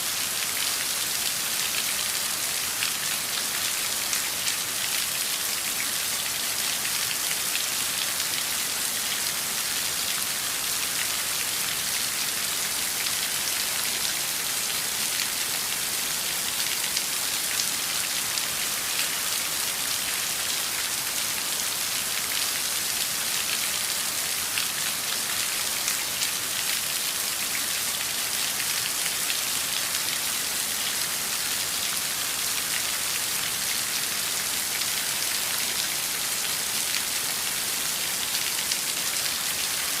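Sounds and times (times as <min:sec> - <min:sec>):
heavy rain on hard surfaces: 0:00.0 - 0:40.0.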